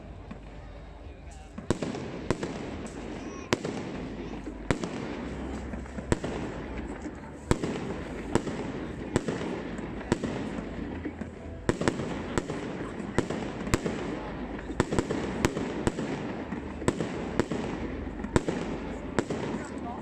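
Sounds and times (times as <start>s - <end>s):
fireworks bangs: 1.3s - 20.0s.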